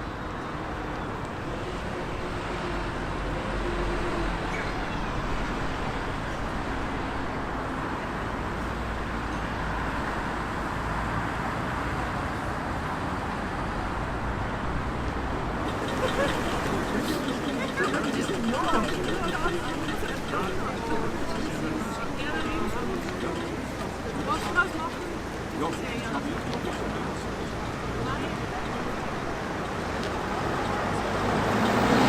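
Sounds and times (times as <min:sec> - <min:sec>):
road vehicles passing: 0:00.0 - 0:32.0.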